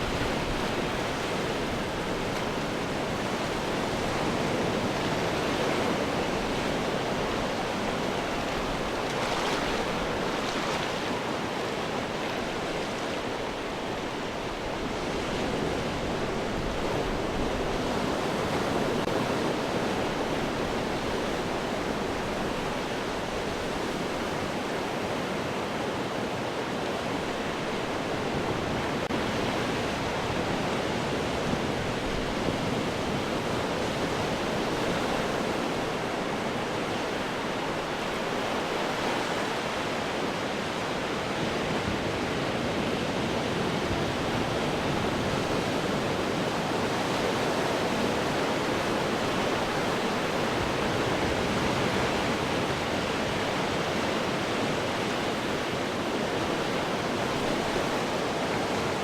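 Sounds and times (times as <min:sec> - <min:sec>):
ocean surf over rocks: 0:00.0 - 0:59.0.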